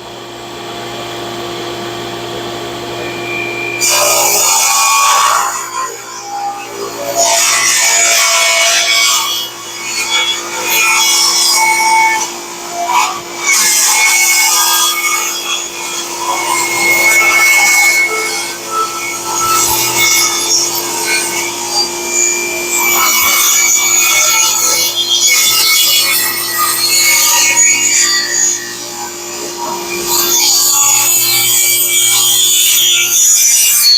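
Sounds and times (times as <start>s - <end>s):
power tool cutting wood: 0.0s - 33.9s.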